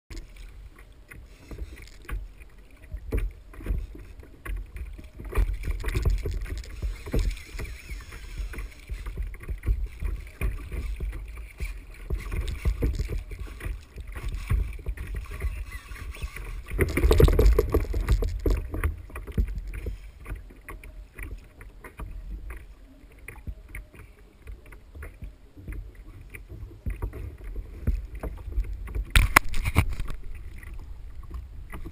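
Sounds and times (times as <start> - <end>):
water sloshing against a kayak: 0.1 - 31.9.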